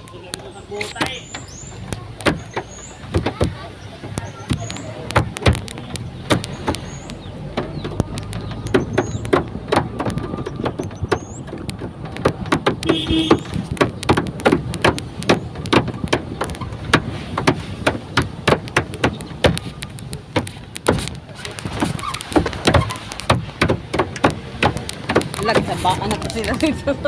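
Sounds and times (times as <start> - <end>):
vehicle engine rumbling: 0.0 - 27.0
knocks and rattles: 0.9 - 27.0.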